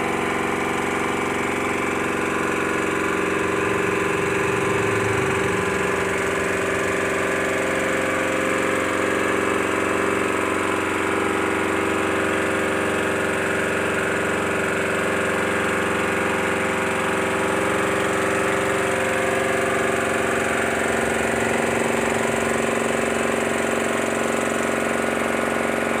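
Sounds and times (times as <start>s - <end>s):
heat gun fan humming: 0.0s - 26.0s.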